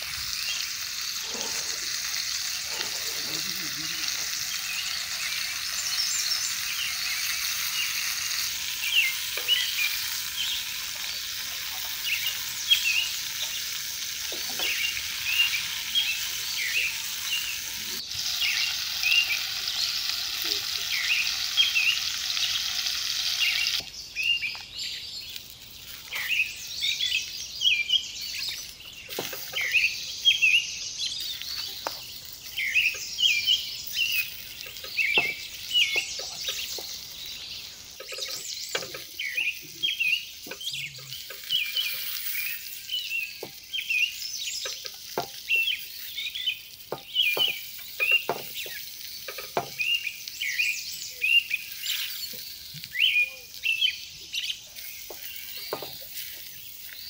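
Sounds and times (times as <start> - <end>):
food sizzling in frying: 0.0 - 57.0
small birds chirping: 0.0 - 57.0.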